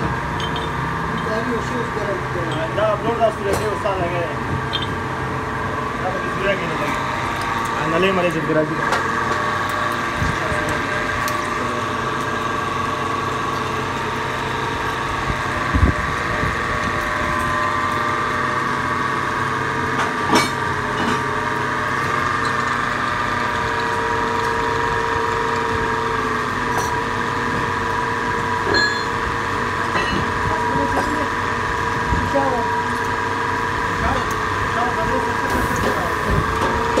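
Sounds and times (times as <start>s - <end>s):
metal lathe whining: 0.0s - 37.0s.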